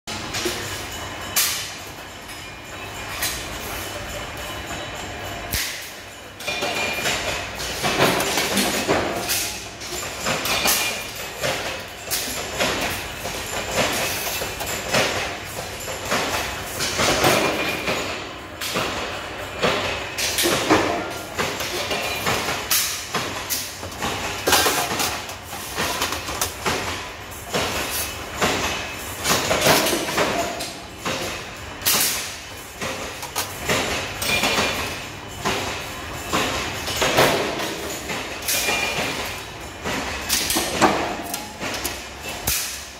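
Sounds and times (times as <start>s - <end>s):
steady machinery noise: 0.1s - 42.9s.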